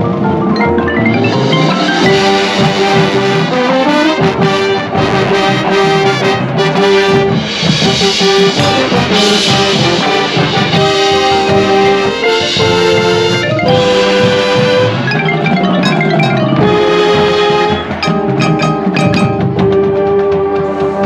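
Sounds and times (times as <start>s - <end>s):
brass melody: 0.0s - 21.0s
marching band playing: 0.0s - 21.0s.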